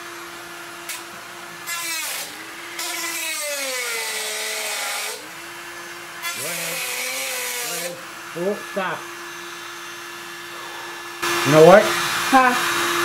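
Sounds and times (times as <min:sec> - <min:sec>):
cut-off wheel grinding sheet metal: 0:00.0 - 0:13.0
rotary tool whining: 0:00.0 - 0:13.0.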